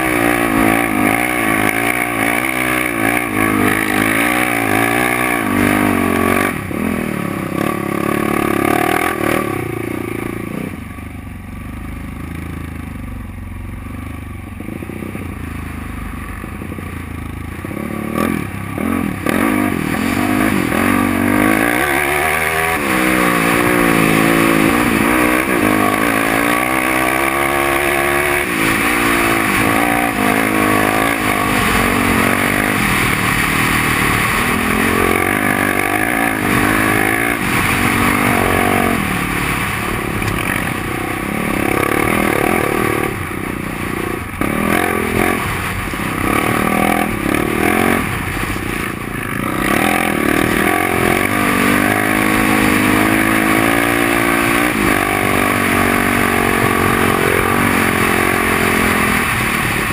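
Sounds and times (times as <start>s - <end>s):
quad engine revving: 0.0s - 10.8s, 16.5s - 59.9s.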